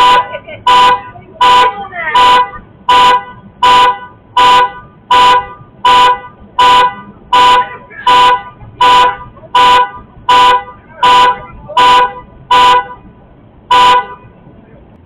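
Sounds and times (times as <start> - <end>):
car alarm horn blasts: 0.0 - 13.0, 13.7 - 14.4.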